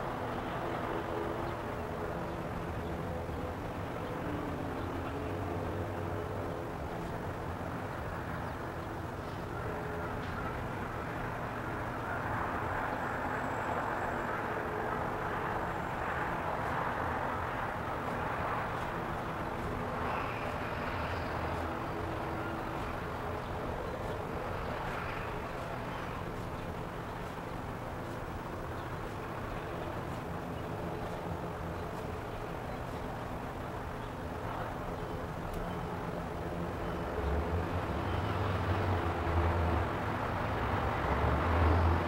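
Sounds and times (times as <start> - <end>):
low traffic hum: 0.0 - 42.0.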